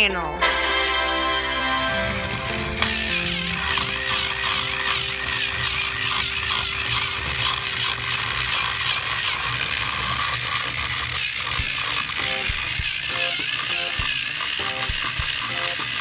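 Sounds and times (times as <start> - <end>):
toy train gearboxes whirring: 0.9 - 16.0.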